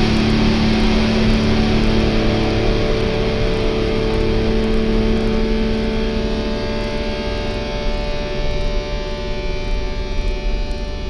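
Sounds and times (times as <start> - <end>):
distorted electric guitar chord: 0.0 - 10.8.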